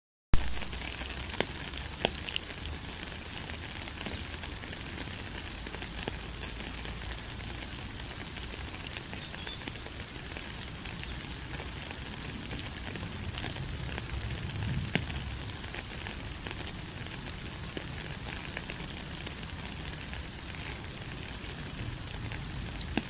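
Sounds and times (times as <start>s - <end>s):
rain falling: 0.4s - 23.0s
sharp drip ticks: 0.7s - 23.0s.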